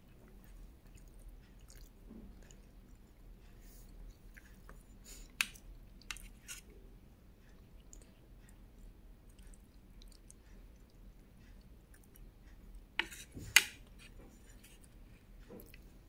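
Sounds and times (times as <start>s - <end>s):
person chewing food: 0.0s - 6.8s, 7.4s - 16.0s.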